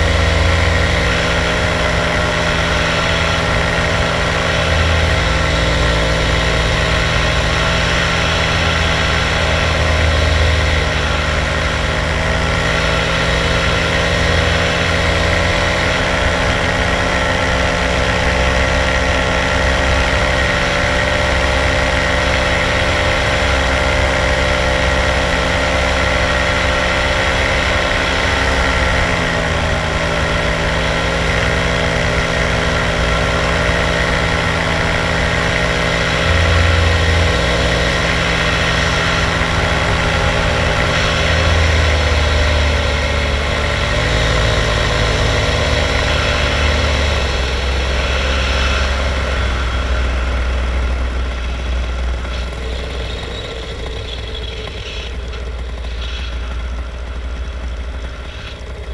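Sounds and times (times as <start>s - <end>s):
paramotor engine and propeller: 0.0s - 58.9s.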